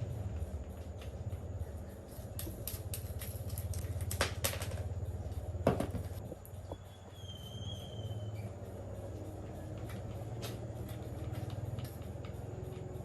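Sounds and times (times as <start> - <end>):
machine running with low pulse: 0.0 - 13.0.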